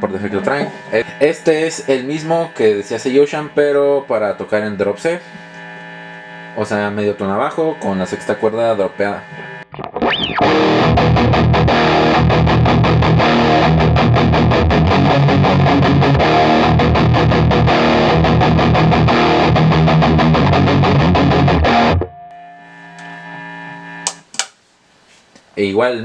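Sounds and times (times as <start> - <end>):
distorted electric guitar riff: 0.0 - 24.3.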